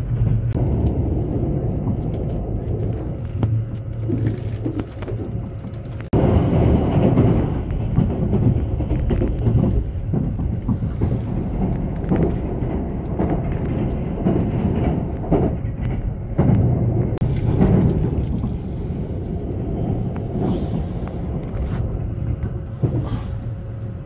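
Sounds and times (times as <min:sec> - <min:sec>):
rail joint clicks and knocks: 0:00.0 - 0:24.0
train wheels rumbling on rail: 0:00.0 - 0:24.0.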